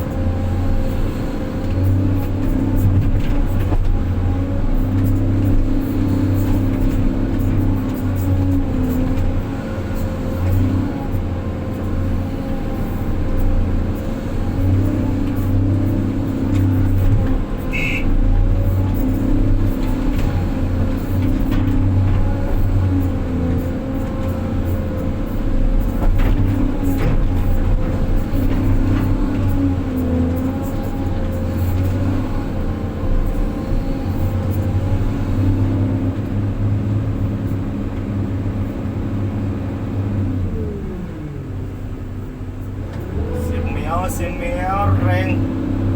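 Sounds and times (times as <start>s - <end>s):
truck diesel engine running: 0.0s - 40.1s, 40.9s - 45.9s.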